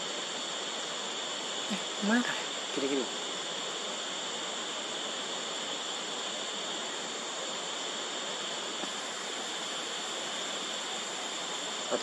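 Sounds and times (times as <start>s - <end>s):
even hiss: 0.0s - 12.0s
forest insects droning: 0.0s - 12.0s.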